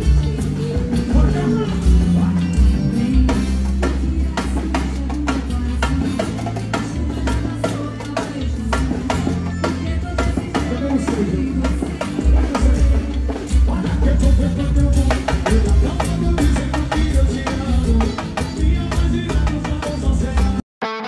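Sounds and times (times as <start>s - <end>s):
drum kit beat: 0.0s - 20.6s
live band music: 0.0s - 21.0s
person singing: 0.0s - 21.0s.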